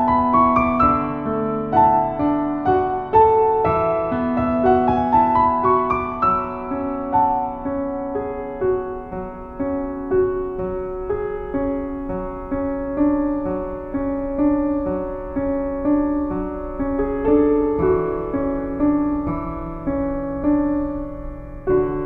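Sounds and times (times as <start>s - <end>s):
slow gentle piano: 0.0s - 22.0s.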